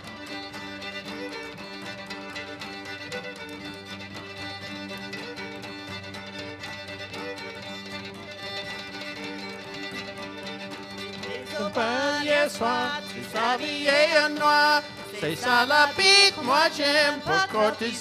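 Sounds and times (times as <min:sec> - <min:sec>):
band playing live: 0:00.0 - 0:18.0
fiddles: 0:00.0 - 0:18.0.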